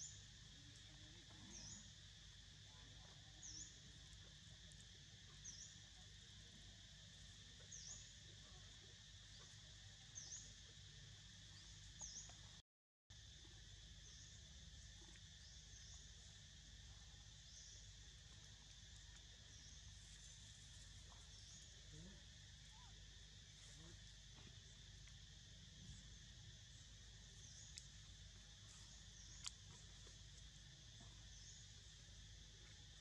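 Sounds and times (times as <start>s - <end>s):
outdoor background hiss: 0.0s - 11.4s, 13.1s - 33.0s
high insect chirps: 0.0s - 33.0s.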